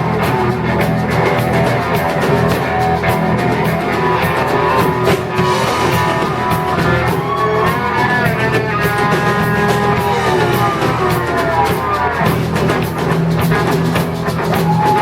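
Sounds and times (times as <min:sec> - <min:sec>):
drums with cymbal hits: 0:00.0 - 0:15.0
electric guitar: 0:00.0 - 0:15.0.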